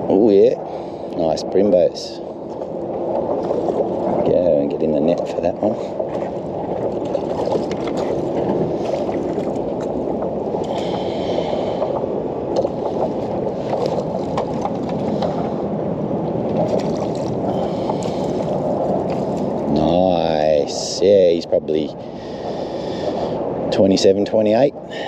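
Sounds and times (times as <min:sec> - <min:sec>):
water lapping against kayak hull: 0:00.0 - 0:25.0.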